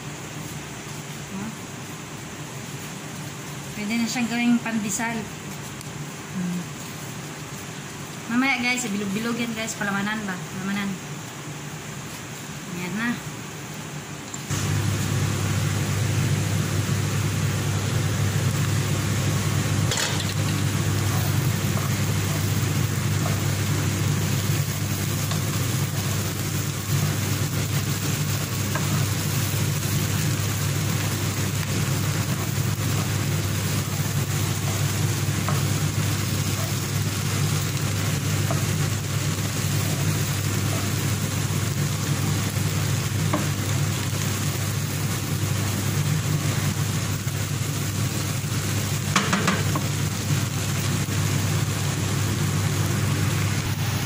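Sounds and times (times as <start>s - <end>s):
steady low hum: 0.0s - 49.2s
even hiss: 0.0s - 54.0s.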